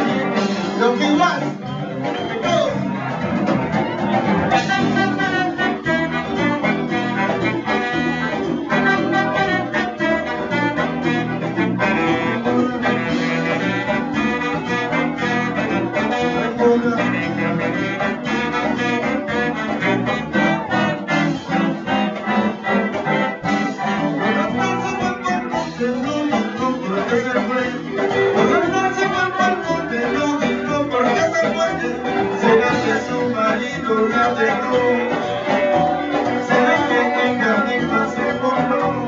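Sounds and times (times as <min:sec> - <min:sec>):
brass horn section playing: 0:00.0 - 0:39.0
steady rhythmic beat: 0:00.0 - 0:39.0.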